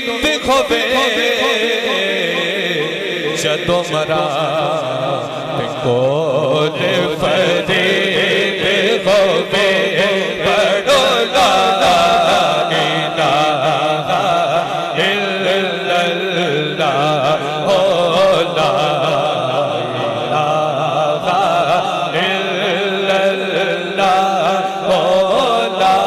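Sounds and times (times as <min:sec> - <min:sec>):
man singing over a pa: 0:00.0 - 0:26.0.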